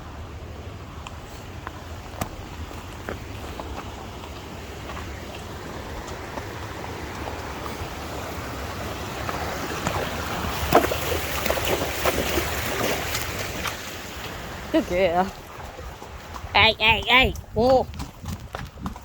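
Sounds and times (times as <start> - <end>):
wind rushing over microphone: 1.2 - 19.0.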